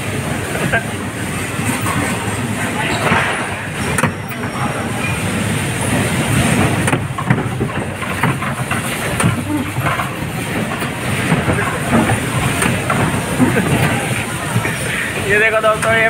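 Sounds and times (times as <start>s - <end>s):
bumper car rumble and rattle: 0.0s - 16.0s.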